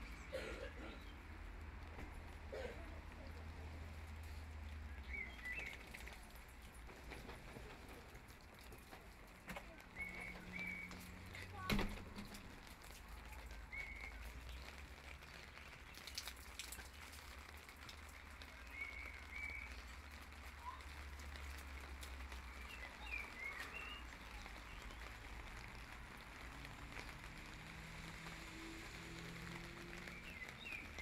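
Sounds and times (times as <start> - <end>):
light rain pattering on paving: 0.0 - 31.0.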